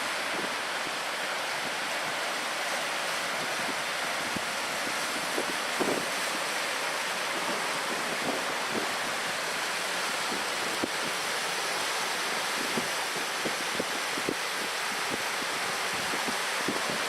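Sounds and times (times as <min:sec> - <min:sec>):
water: 0:00.0 - 0:17.0
wind: 0:00.0 - 0:17.0.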